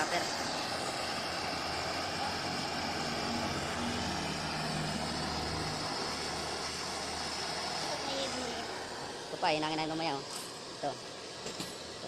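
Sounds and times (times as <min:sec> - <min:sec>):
welding torch flame hissing: 0:00.0 - 0:12.0.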